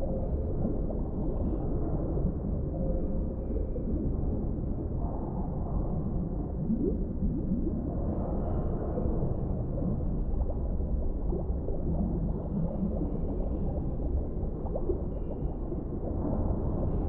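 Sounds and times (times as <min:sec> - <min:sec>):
bubbling and gurgling: 0:00.0 - 0:17.0
deep underwater rumble: 0:00.0 - 0:17.0.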